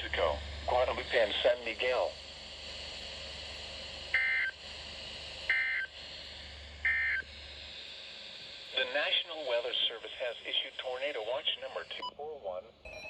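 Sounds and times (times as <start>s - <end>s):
steady broadcast hum: 0.0s - 12.9s.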